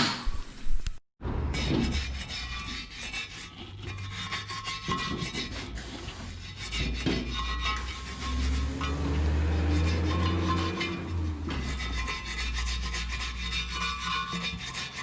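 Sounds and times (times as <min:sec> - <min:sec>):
rasping rubber tyre: 0:01.2 - 0:15.0.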